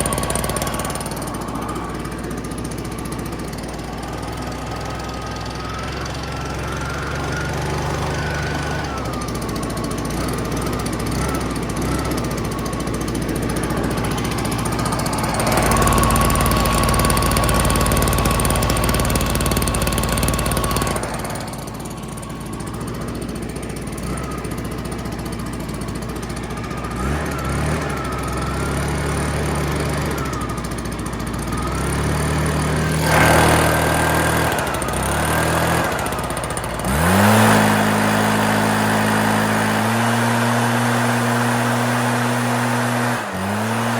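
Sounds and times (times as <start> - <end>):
leaf blower engine running: 0.0 - 43.9.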